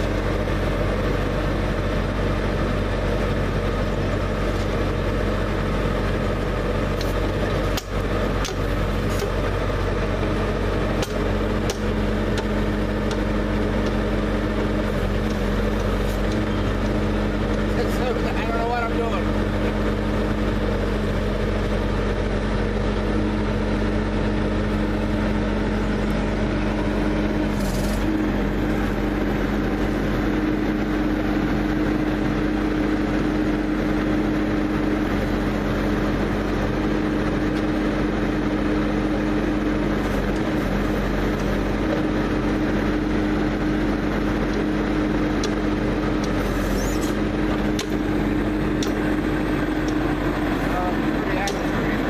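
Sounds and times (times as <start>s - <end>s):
loader engine running: 0.0s - 52.0s.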